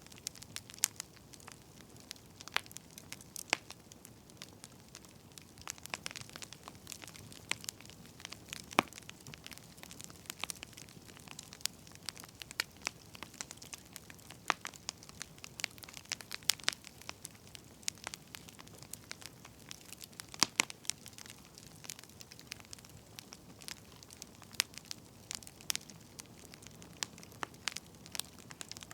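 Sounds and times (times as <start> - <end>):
firewood crackling and popping: 0.0 - 28.9.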